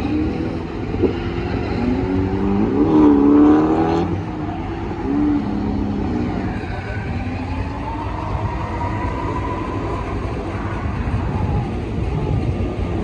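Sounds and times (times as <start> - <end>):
car engine running low revs: 0.0 - 13.0
faint engine whine: 0.0 - 13.0.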